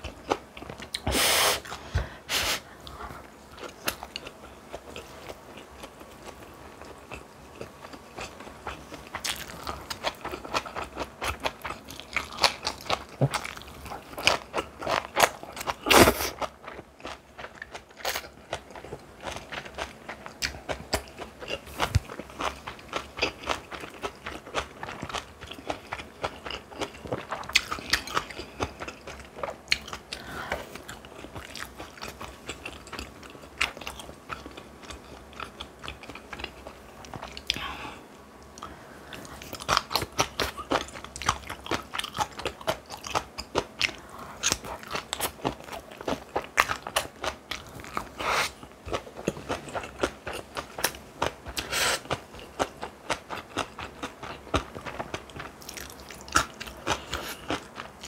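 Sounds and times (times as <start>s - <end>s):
person chewing and crunching food: 0.0s - 58.0s.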